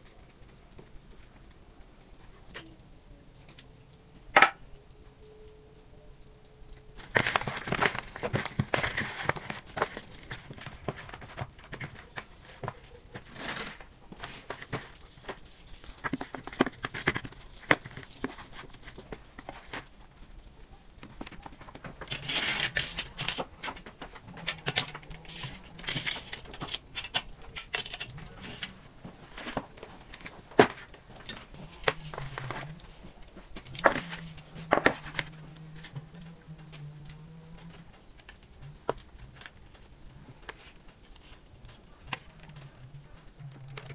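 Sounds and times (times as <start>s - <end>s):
faint low hum: 0.0s - 43.9s.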